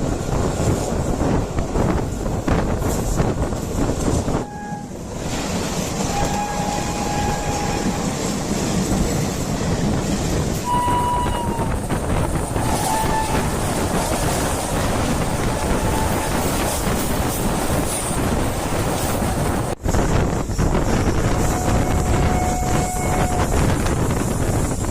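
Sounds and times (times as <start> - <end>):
train rumbling and clattering: 0.0 - 24.9.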